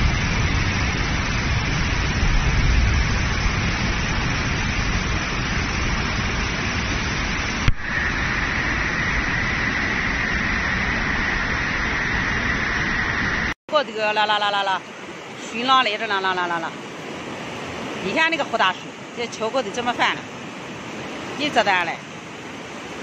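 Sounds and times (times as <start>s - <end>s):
floodwater rushing with low rumble: 0.0s - 23.0s.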